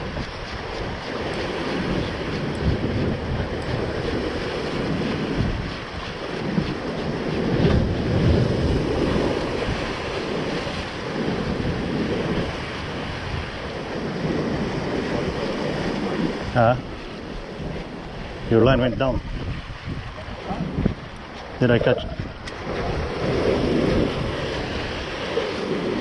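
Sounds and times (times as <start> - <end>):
ocean waves washing: 0.0 - 26.0
wind buffeting microphone: 0.0 - 26.0.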